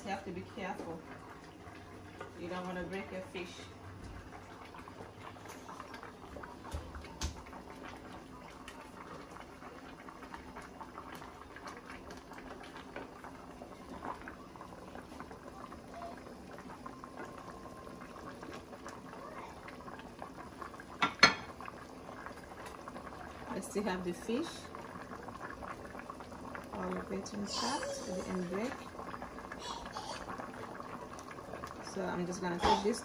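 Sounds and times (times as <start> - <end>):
soup boiling and bubbling: 0.0 - 33.0.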